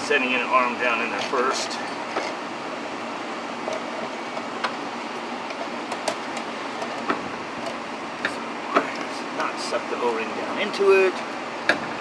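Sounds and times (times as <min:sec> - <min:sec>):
shop fan noise: 0:00.0 - 0:12.0.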